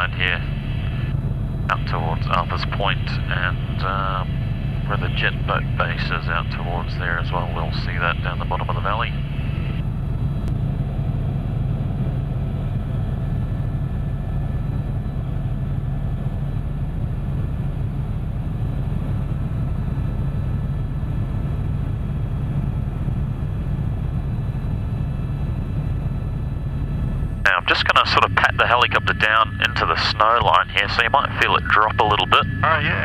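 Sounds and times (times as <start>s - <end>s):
helicopter rotor and engine drone: 0.0s - 33.0s.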